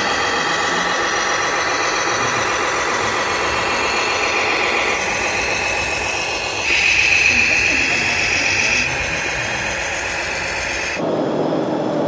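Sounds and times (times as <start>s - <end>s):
model tractor motor: 0.0s - 11.0s
high motor whine: 0.0s - 12.0s.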